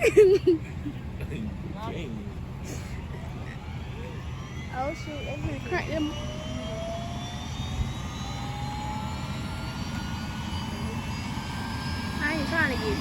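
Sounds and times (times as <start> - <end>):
helicopter turbine whine: 0.0 - 13.0.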